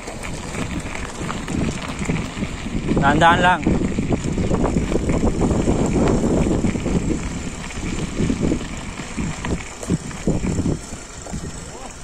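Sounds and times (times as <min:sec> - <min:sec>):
bike knocking and rattling: 0:00.0 - 0:12.0
tyres rumbling on rough ground: 0:00.0 - 0:12.0.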